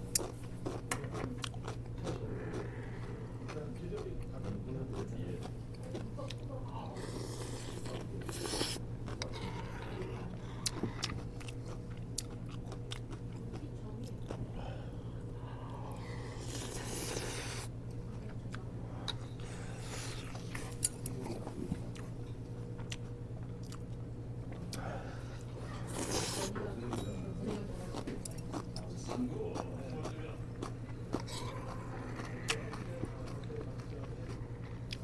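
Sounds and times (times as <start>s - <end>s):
person chewing and crunching food: 0.0s - 35.0s.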